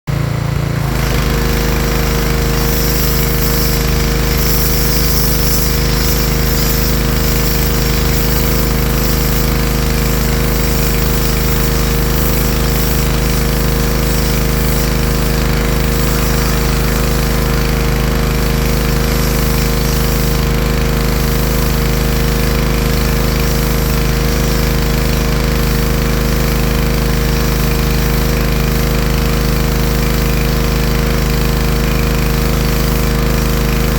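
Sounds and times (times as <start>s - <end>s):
pressure washer motor humming: 0.1s - 33.9s
water jet hissing on stone: 0.7s - 33.9s.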